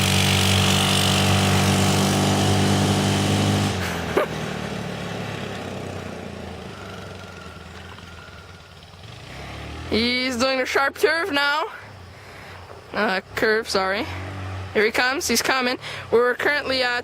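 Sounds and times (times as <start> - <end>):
quad engine revving: 0.0 - 11.5, 12.9 - 17.0.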